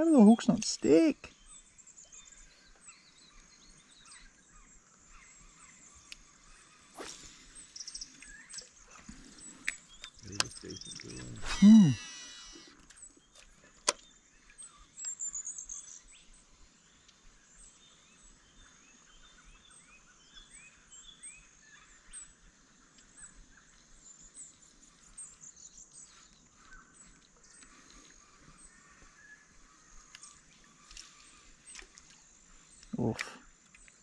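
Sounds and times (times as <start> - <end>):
birds chirping: 0.0 - 34.0
low curved bird calls: 0.0 - 34.0.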